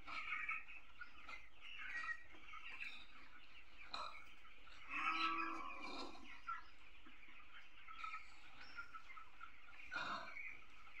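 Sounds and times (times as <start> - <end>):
chicks peeping and chirping: 0.0 - 11.0.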